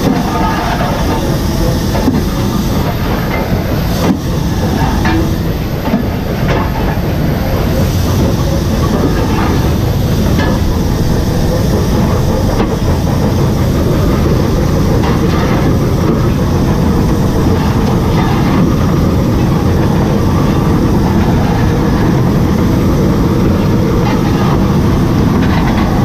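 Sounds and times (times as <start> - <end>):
steam locomotive rumble and rattle: 0.0 - 26.0.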